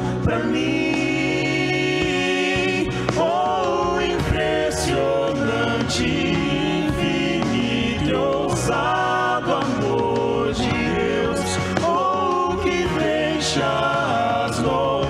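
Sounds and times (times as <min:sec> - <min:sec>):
male vocal quartet singing in harmony: 0:00.0 - 0:15.0.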